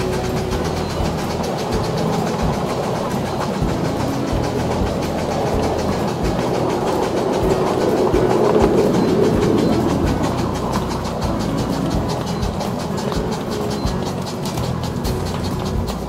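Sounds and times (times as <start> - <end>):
miniature steam locomotive running: 0.0 - 16.0.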